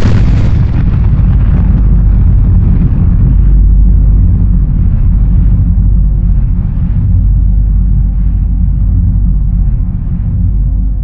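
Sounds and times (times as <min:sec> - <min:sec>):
deep steady rumble: 0:00.0 - 0:11.0
explosion blast with crackle: 0:00.0 - 0:11.0.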